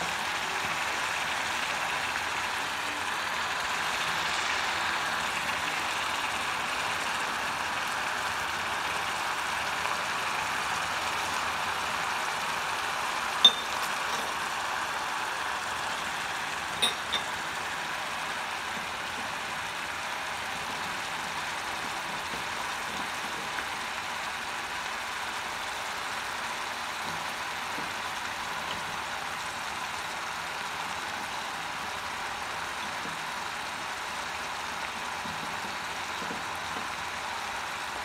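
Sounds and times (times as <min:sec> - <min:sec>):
onions frying in oil: 0:00.0 - 0:38.0.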